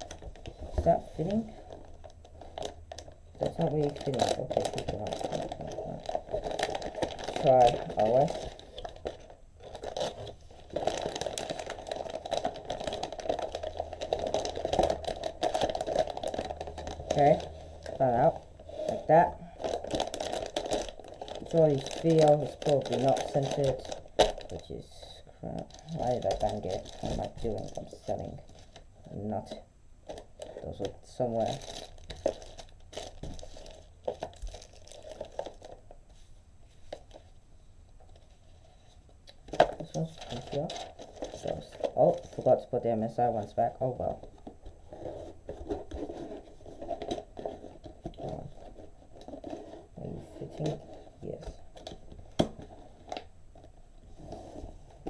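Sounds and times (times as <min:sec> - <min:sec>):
plastic packaging crinkling: 0:00.0 - 0:29.2, 0:30.0 - 0:36.0, 0:39.3 - 0:53.8
low steady hum: 0:00.0 - 0:55.0.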